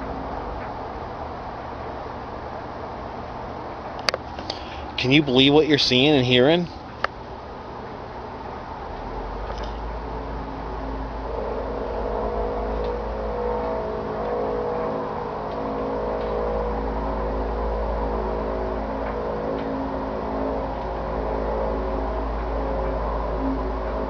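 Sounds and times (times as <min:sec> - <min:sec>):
low hum: 0:00.0 - 0:24.0
steady pitched droning tones: 0:00.0 - 0:24.0.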